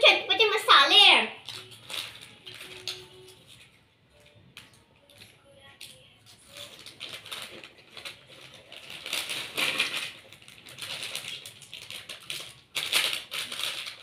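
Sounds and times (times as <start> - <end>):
plastic snack packet crinkling: 1.2 - 14.0.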